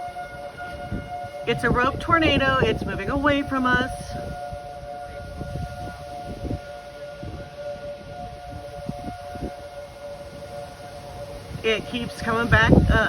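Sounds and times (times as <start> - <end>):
low gusty rumble: 0.0 - 13.0
tornado warning siren: 0.0 - 13.0.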